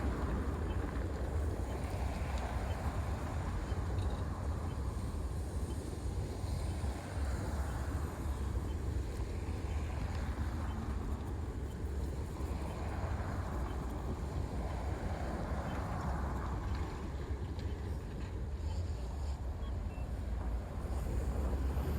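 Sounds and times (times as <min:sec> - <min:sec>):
city street traffic: 0:00.0 - 0:21.9.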